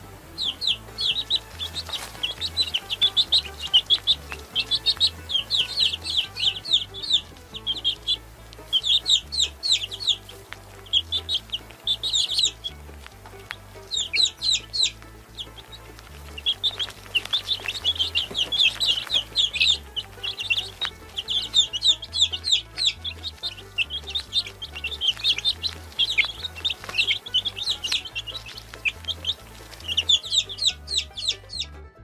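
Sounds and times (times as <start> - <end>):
baby chicks peeping: 0.0 - 31.8.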